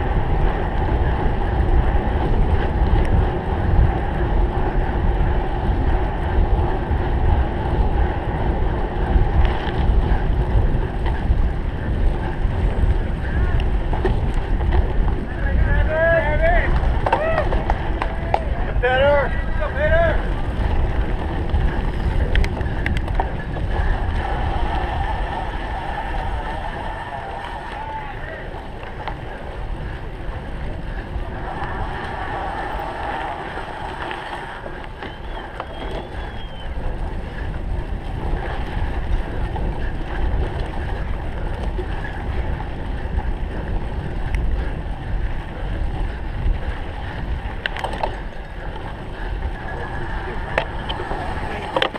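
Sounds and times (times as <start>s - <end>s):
wind rumbling on microphone: 0.0s - 51.9s.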